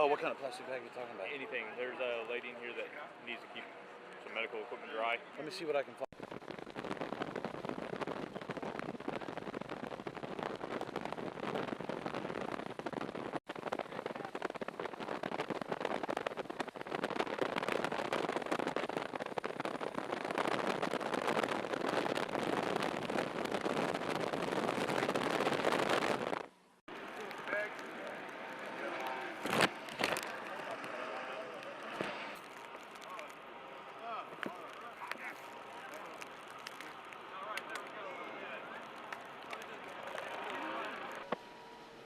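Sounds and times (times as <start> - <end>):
heavy rain pattering: 6.2 - 41.4.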